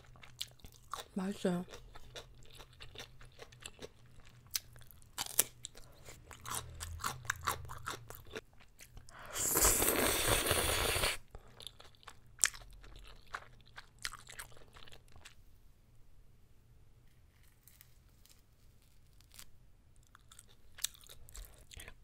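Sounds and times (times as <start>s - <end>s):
crunchy chewing: 0.0s - 15.4s, 17.3s - 22.0s.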